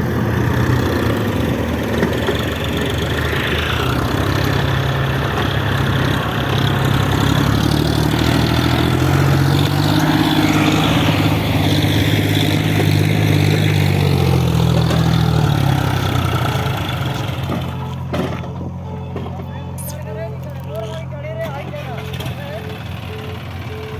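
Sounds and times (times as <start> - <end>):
backhoe diesel engine revving: 0.0 - 23.9.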